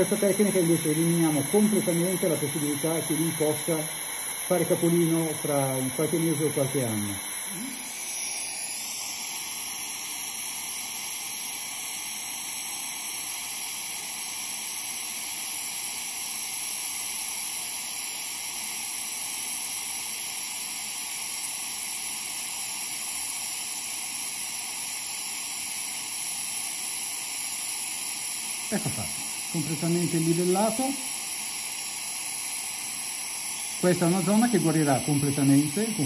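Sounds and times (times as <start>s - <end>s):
suction unit hissing: 0.0s - 36.0s.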